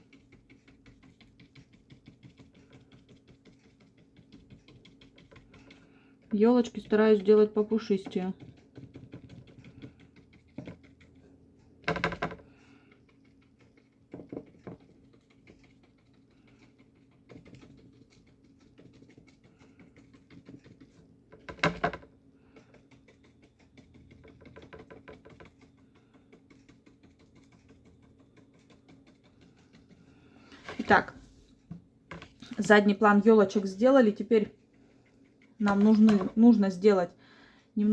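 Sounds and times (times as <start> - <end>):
bristle brush tapping on paper: 0.0 - 34.4, 35.1 - 36.7.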